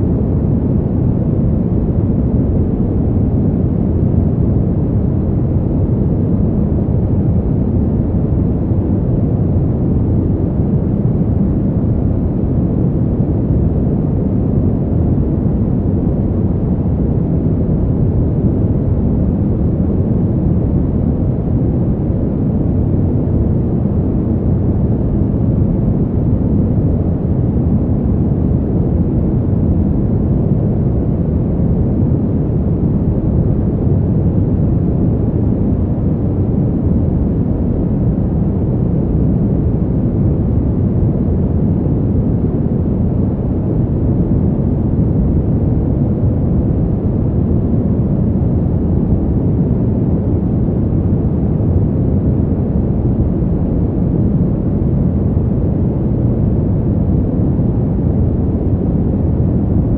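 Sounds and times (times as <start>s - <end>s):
deep winter wind: 0.0s - 59.9s.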